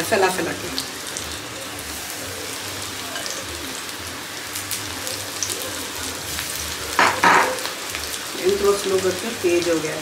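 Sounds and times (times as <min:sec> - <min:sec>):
food deep-frying in hot oil: 0:00.0 - 0:10.0
oil crackling and popping: 0:00.6 - 0:10.0.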